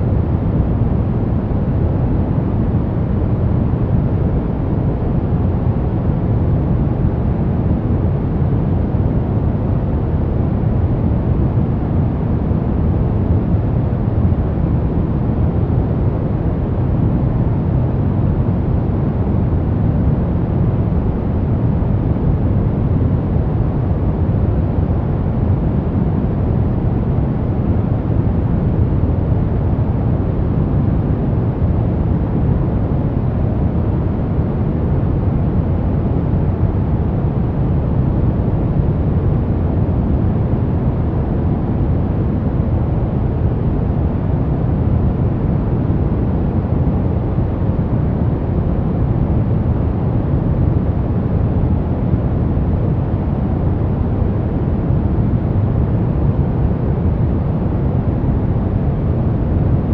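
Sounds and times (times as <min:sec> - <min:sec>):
deep white noise rush: 0:00.0 - 0:59.9.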